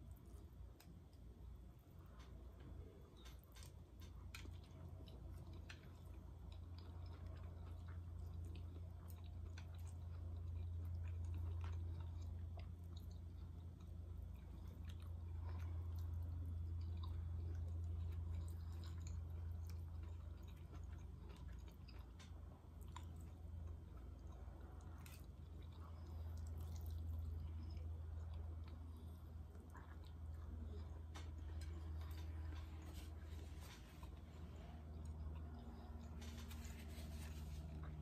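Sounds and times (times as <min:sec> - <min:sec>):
person chewing: 0:00.0 - 0:38.0
steady low hum: 0:00.0 - 0:38.0.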